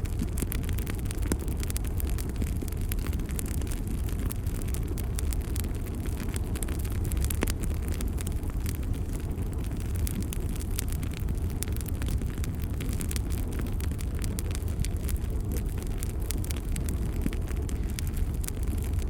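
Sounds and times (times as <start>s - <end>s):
bonfire flames rumbling: 0.0s - 19.0s
fire crackles and pops: 0.0s - 19.0s.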